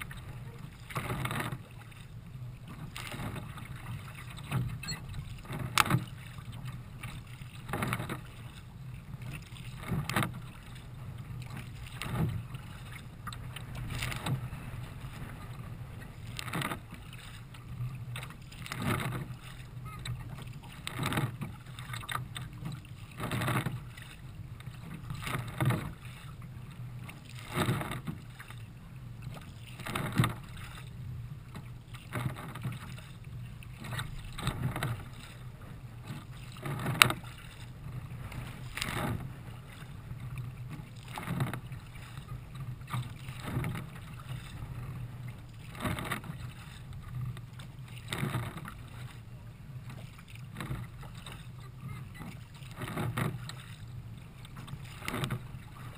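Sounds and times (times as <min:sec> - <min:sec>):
kayak paddle splashing: 0:00.0 - 0:55.9
rush of water: 0:00.0 - 0:55.9
wind: 0:00.0 - 0:55.9.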